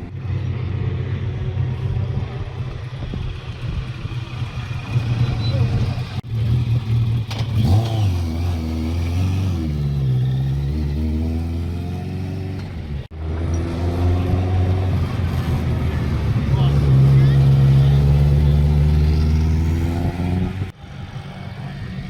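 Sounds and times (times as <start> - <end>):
race car engines revving past: 0.0 - 22.0.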